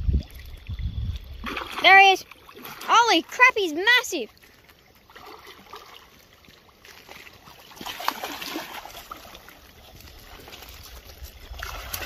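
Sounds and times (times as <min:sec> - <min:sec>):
sharp water splash: 0:00.0 - 0:04.4, 0:05.1 - 0:12.0
shallow water washing over rocks: 0:01.4 - 0:12.0.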